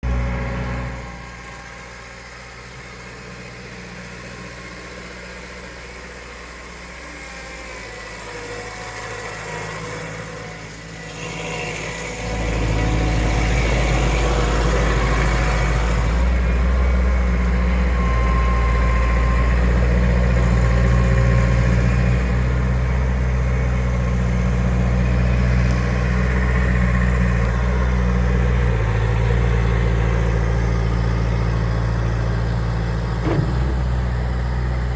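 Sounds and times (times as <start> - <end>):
loader engine running: 0.0 - 34.9.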